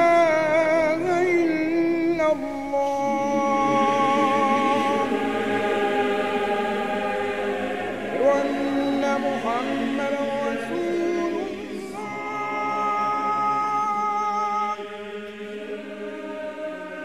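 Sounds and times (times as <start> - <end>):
choir holding long notes: 0.0 - 17.0
voice singing with vibrato: 0.0 - 17.0.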